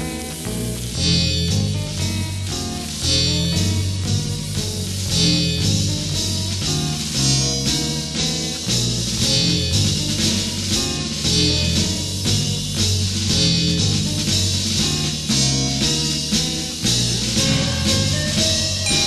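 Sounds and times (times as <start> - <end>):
drum kit beat: 0.0 - 19.0
guitar: 0.0 - 19.0
stepping bass line: 0.0 - 19.0.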